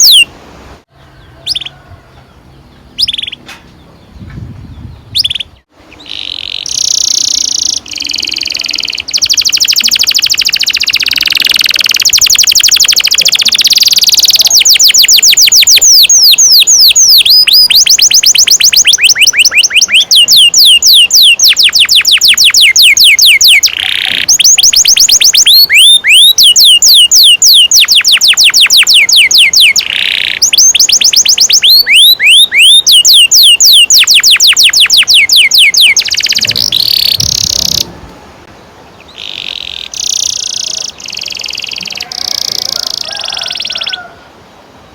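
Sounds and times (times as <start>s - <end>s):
canary singing trills: 0.0s - 0.3s, 1.0s - 37.9s, 39.0s - 44.2s.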